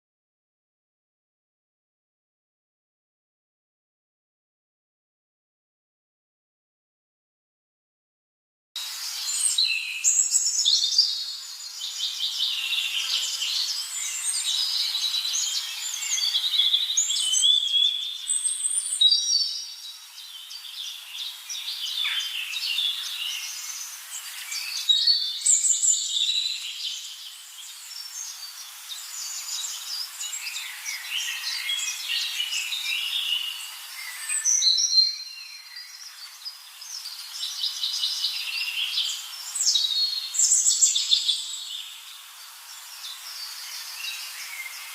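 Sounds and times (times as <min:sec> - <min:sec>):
chorus of birds singing: 0:08.8 - 0:44.9.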